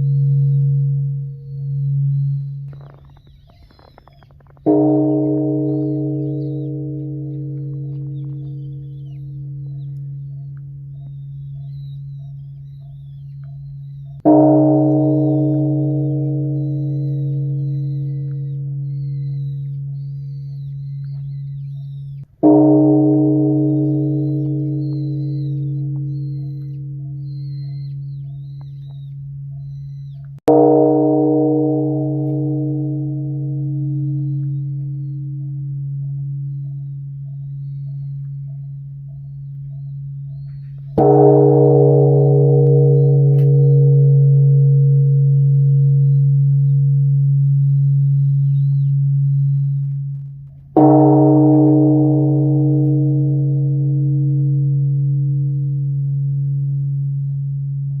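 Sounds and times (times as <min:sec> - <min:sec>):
deep bell hum: 0:00.0 - 0:03.6, 0:04.4 - 0:58.0
large bronze bell struck: 0:00.0 - 0:58.0.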